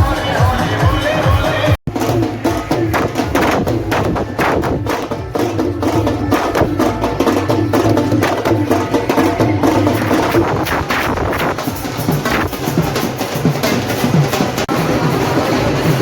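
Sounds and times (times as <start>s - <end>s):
drums beating fast rhythm: 0.0s - 16.0s.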